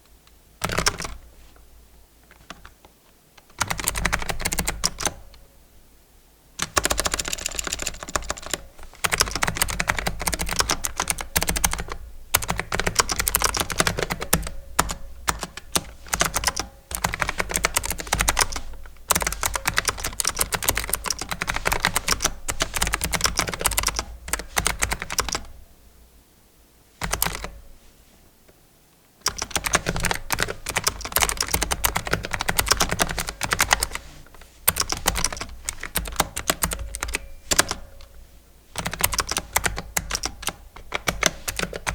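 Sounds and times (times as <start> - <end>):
mechanical keyboard typing: 0.6 - 1.2, 3.4 - 5.3, 6.6 - 25.5, 27.0 - 27.6, 29.2 - 38.1, 38.8 - 41.9.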